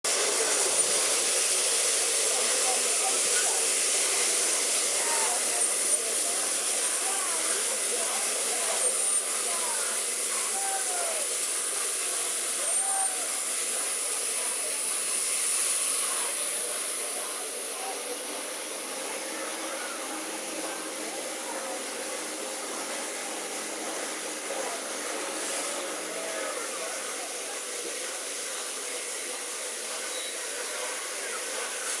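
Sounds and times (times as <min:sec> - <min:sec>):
people talking: 0:00.1 - 0:32.0
steam locomotive hissing: 0:00.1 - 0:32.0.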